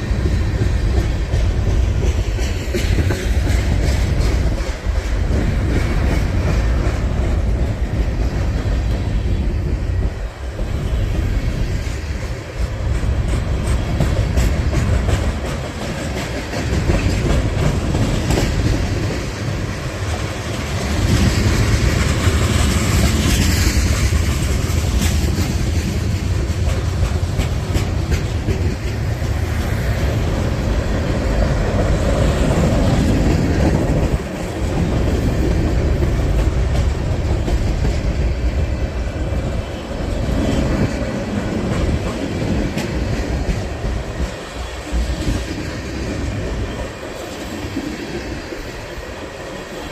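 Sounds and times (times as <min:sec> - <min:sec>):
freight train rumbling past: 0:00.0 - 0:49.9
wheels clacking over rail joints: 0:00.0 - 0:49.9.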